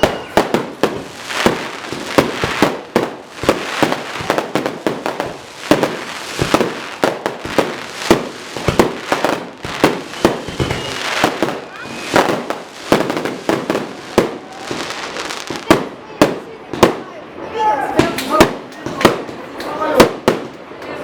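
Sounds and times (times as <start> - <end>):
fireworks banging: 0.0 - 17.3, 18.0 - 21.0
fireworks crackling: 0.0 - 17.3, 18.0 - 20.9.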